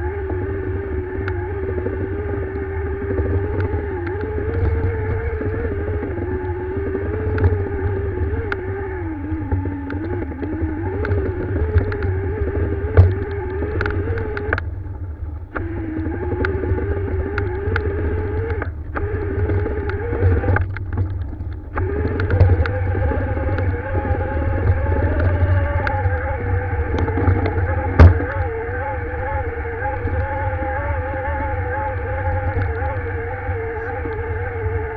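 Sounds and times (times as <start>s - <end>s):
dirt bike engine: 0.0s - 34.9s
sharp clicks: 0.2s - 34.9s.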